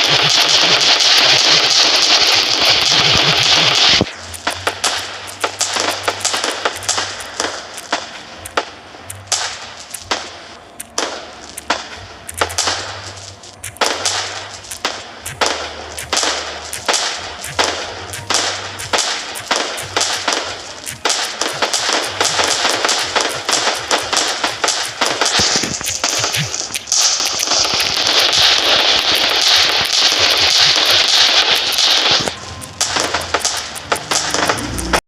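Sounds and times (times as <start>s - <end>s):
fireworks bangs: 0.0s - 35.0s
fireworks crackling: 0.0s - 35.0s.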